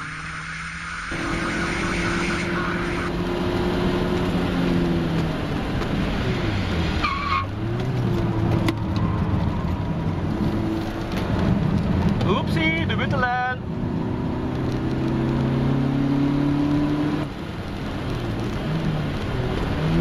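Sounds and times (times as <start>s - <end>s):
car engine from inside cabin: 0.0s - 20.0s
road noise: 0.0s - 20.0s.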